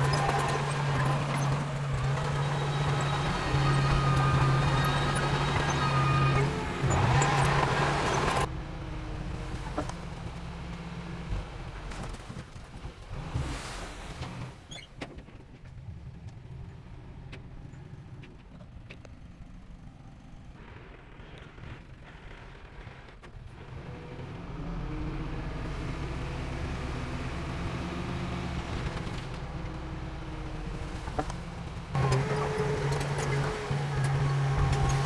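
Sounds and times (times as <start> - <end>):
diesel machinery rumbling: 0.0 - 14.9, 15.8 - 35.0.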